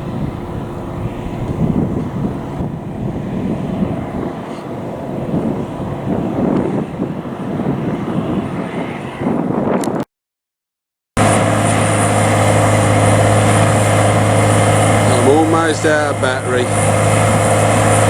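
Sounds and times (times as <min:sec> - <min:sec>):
tractor diesel engine under load: 0:00.0 - 0:08.6, 0:11.2 - 0:18.0.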